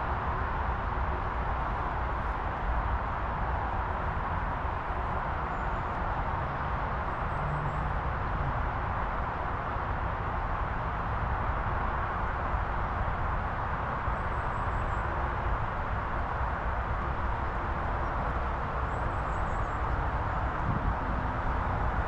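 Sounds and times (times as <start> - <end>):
distant motorway traffic roar: 0.0 - 22.0.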